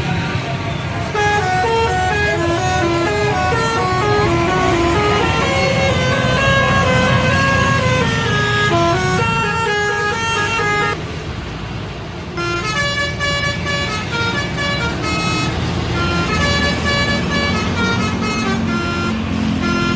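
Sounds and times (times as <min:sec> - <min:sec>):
bus engine rumble: 0:00.0 - 0:19.9
bus horn melody: 0:00.9 - 0:11.0, 0:12.4 - 0:19.9.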